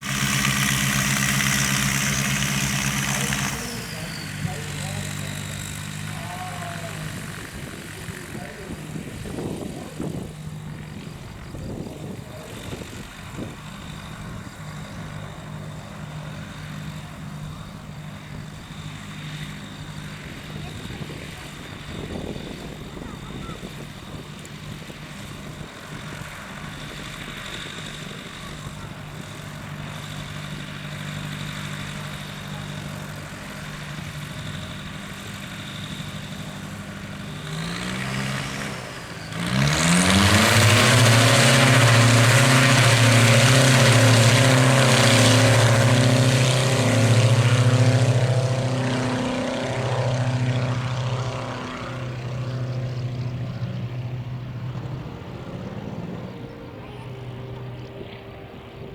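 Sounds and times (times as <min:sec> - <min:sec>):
propeller aircraft engine revving: 0:00.0 - 0:58.9.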